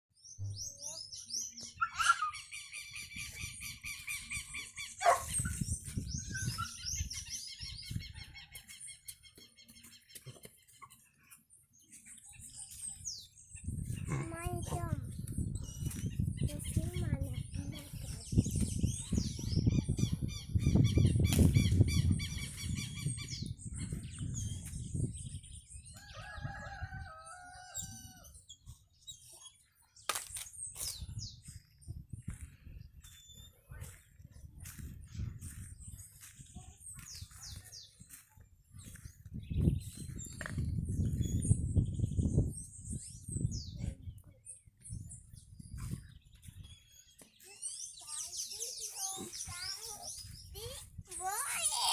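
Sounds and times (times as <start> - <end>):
birds chirping: 0.2 - 51.9.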